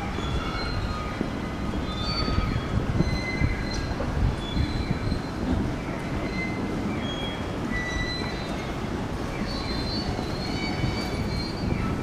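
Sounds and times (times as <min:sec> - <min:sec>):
high squeals of train wheels: 0:00.0 - 0:12.0
train rumbling past: 0:00.0 - 0:12.0.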